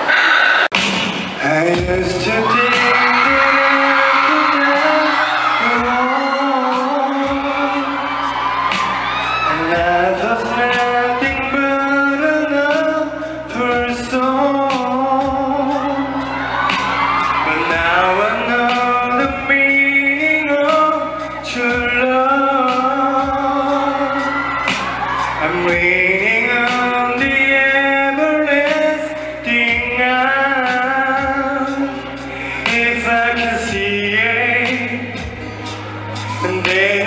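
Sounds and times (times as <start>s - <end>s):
backing music: 0.0s - 37.0s
man singing into microphone: 1.4s - 8.4s, 9.3s - 16.6s, 17.3s - 35.6s, 36.2s - 37.0s.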